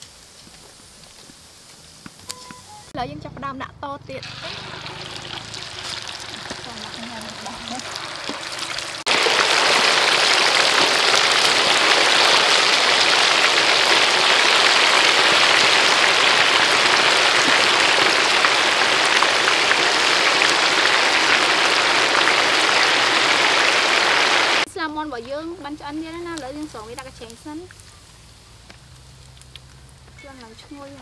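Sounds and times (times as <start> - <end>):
oil sizzling in a wok: 0.0 - 2.9, 4.2 - 31.0.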